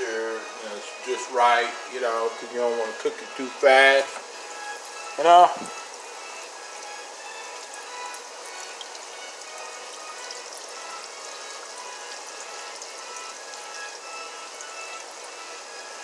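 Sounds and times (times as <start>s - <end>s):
faint background music: 0.0s - 16.0s
food sizzling in a frying pan: 0.0s - 16.0s.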